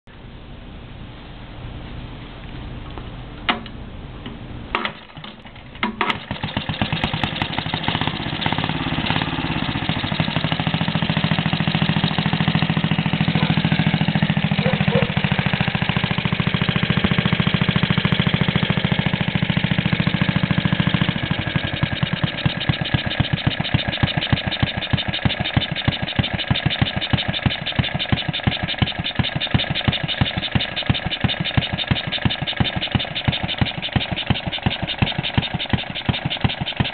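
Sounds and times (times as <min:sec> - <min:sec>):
single-cylinder engine running: 0:02.5 - 0:36.9.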